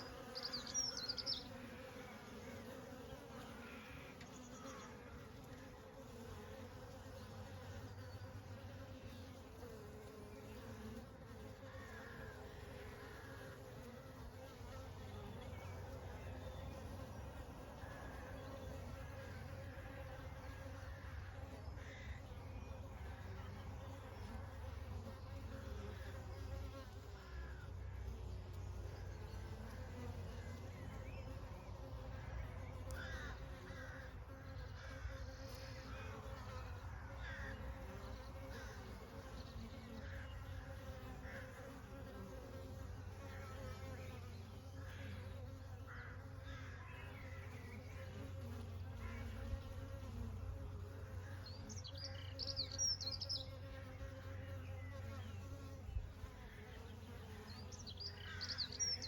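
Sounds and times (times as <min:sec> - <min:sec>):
honey bees buzzing: 0:00.0 - 0:59.0.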